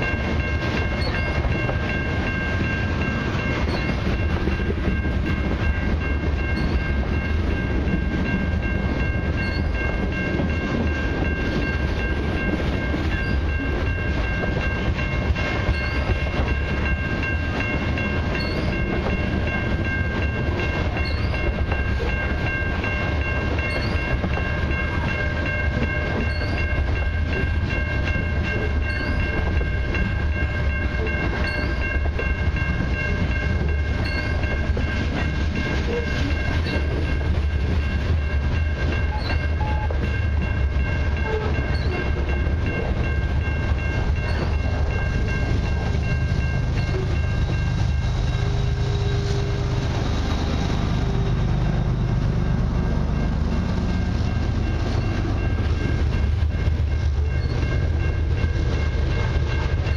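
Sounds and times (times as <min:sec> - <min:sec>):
freight wheels rumbling and clacking: 0:00.0 - 0:59.9.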